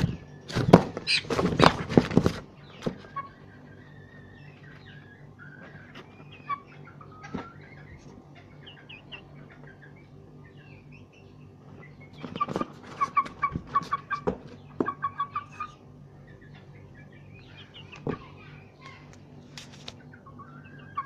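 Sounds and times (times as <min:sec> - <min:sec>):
small birds chirping: 0:00.0 - 0:01.8, 0:02.4 - 0:21.0
chicken clucking: 0:00.0 - 0:21.0.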